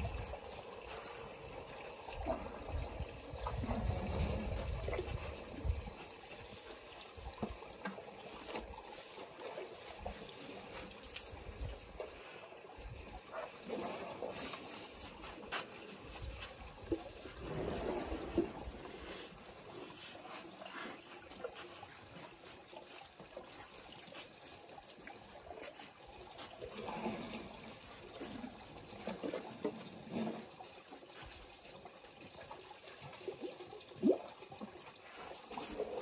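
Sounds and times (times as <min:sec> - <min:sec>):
water trickling and splashing: 0:00.0 - 0:36.0.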